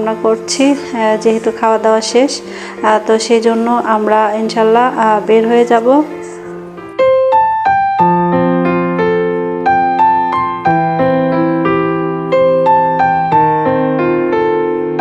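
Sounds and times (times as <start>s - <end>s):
gentle electric piano melody: 0.0s - 15.0s.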